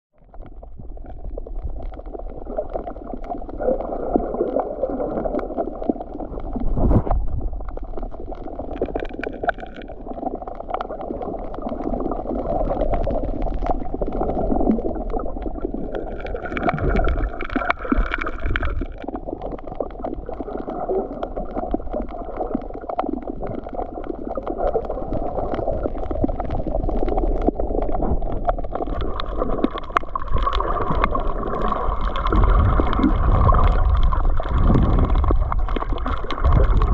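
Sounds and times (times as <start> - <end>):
small underwater clicks and crackles: 0.1 - 36.9
underwater water rush and gurgle: 0.2 - 36.9.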